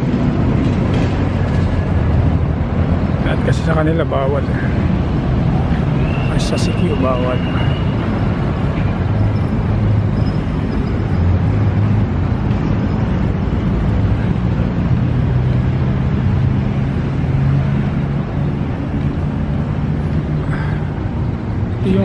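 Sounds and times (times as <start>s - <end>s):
low engine hum: 0.0s - 22.0s
road traffic rumble: 0.0s - 22.0s.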